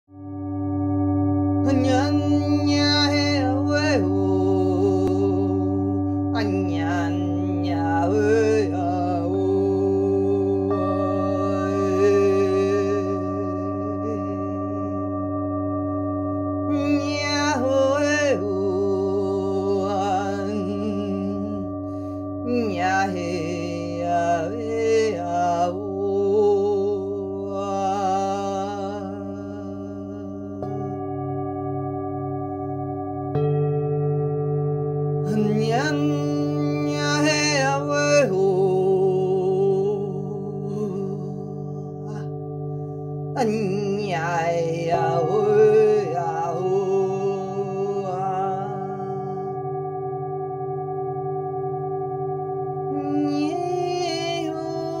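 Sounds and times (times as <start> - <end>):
singing bowls ringing: 0.2 - 55.0
person singing wordless sounds: 1.6 - 15.4, 16.6 - 31.1, 35.2 - 49.9, 52.8 - 55.0.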